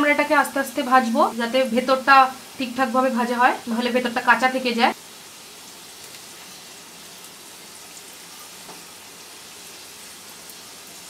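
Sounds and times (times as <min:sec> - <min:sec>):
food sizzling in frying oil: 0:00.0 - 0:11.0.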